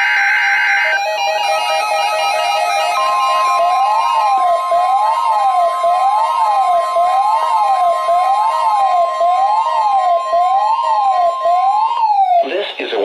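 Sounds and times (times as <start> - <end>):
siren-like wail: 0.0 - 12.6
high alarm tone: 0.0 - 13.0.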